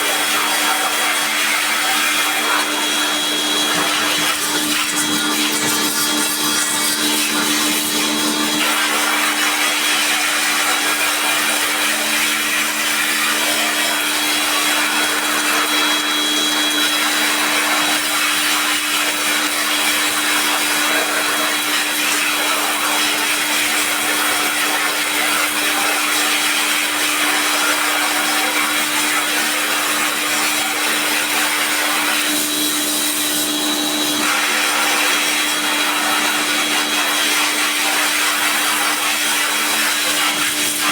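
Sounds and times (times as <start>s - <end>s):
small electric motor running: 0.0s - 40.9s.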